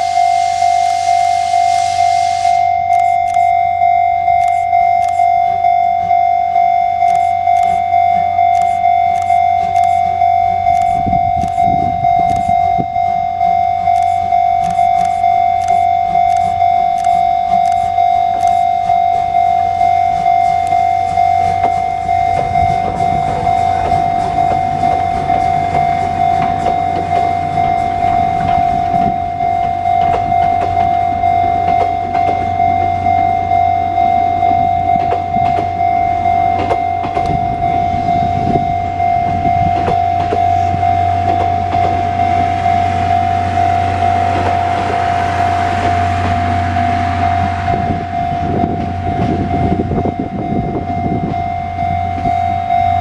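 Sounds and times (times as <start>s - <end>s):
level-crossing alarm ringing: 0.0s - 53.0s
train wheels clicking over rail joints: 7.1s - 52.4s.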